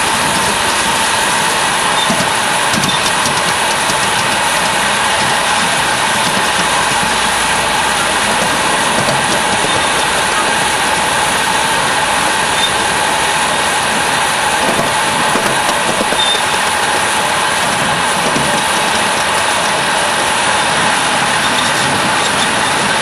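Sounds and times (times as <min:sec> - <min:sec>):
wheels rattling on rail: 0:00.0 - 0:23.0.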